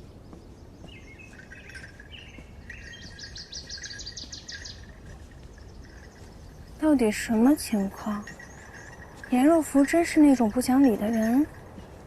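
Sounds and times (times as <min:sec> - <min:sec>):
birds chirping: 0:00.0 - 0:12.0
low steady background noise: 0:00.0 - 0:12.0.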